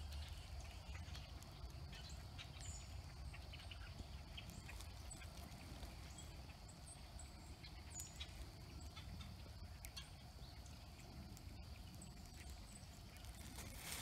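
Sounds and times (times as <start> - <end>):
faint bird chirps: 0.0 - 14.0
kindling crackling and popping: 0.0 - 14.0
low steady stove rumble: 0.0 - 14.0.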